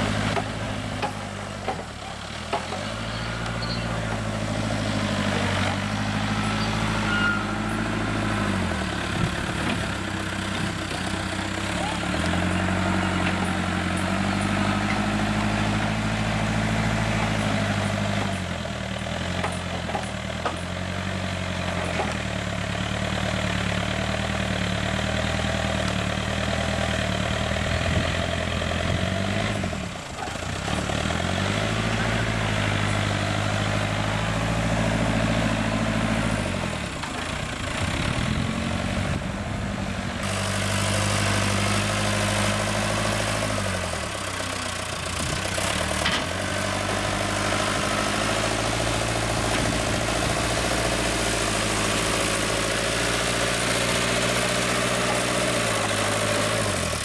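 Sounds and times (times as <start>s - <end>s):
backhoe diesel engine revving: 0.0s - 57.0s.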